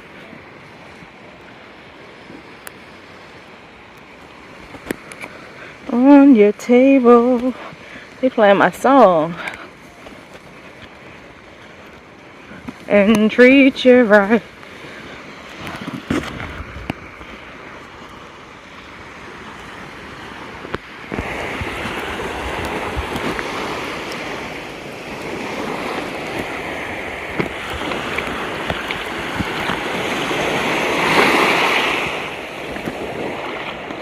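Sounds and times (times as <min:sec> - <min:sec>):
small waves washing onto beach: 0:00.0 - 0:34.0
wind buffeting microphone: 0:04.7 - 0:34.0.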